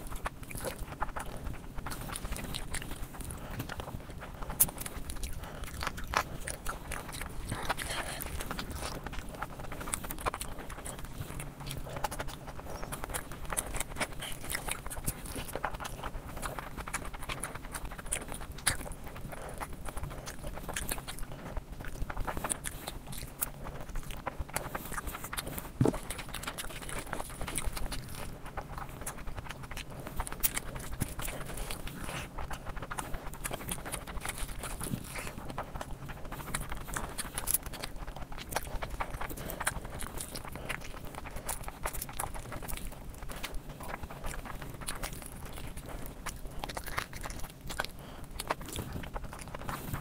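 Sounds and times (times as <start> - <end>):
chewing mouth clicks and smacks: 0.0 - 50.0
fingers squelching through rice: 0.0 - 50.0.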